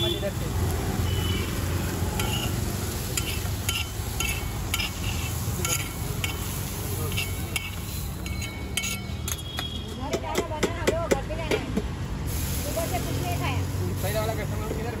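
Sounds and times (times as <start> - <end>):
vegetables frying: 0.0 - 9.5, 11.8 - 15.0
metal spatula on hot griddle: 0.0 - 15.0.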